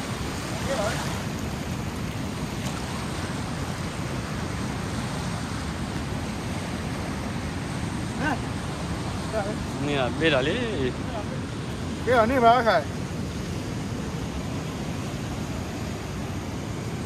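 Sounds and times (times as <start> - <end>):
river water washing on shore: 0.0 - 17.0.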